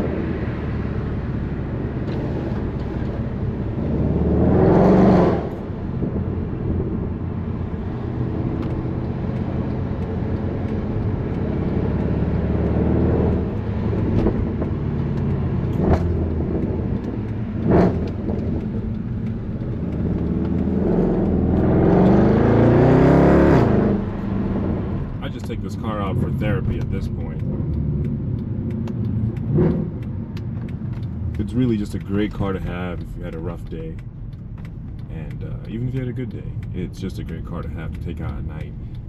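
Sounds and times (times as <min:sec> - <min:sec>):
car engine revving: 0:00.0 - 0:39.0
exhaust pops: 0:00.0 - 0:39.0.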